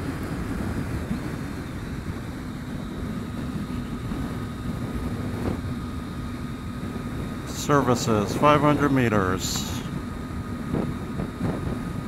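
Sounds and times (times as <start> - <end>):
motorcycle engine drone: 0.0 - 12.0
wind rush over microphone: 0.0 - 12.0.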